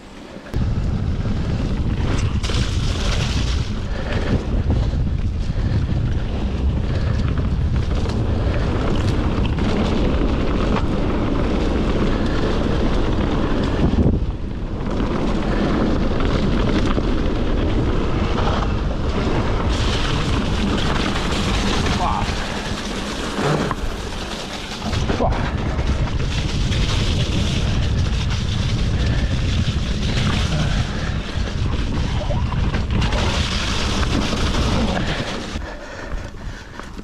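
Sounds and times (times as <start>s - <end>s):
bike rattling over rough ground: 0.0s - 37.0s
wind buffeting microphone: 0.4s - 37.0s.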